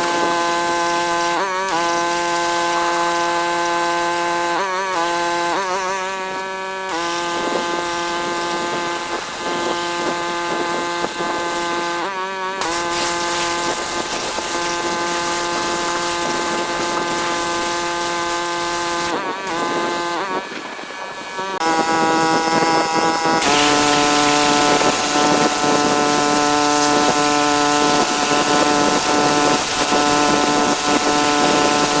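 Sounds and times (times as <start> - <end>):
high-pressure water jet spraying: 0.0 - 32.0
pressure washer running: 0.0 - 32.0.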